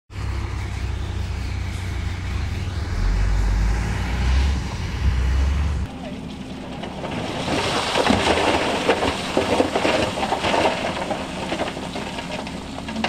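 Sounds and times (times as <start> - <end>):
heavy diesel engine rumbling: 0.1 - 13.0.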